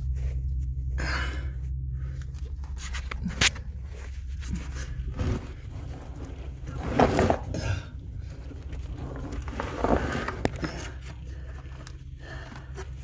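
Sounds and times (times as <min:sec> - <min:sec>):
steady low hum: 0:00.0 - 0:13.0
scraping and shuffling on concrete: 0:01.6 - 0:13.0.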